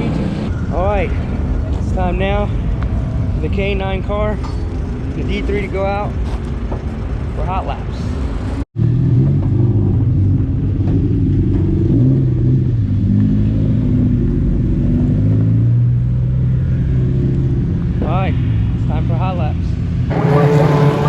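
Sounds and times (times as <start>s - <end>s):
race car engines running: 0.0s - 21.0s.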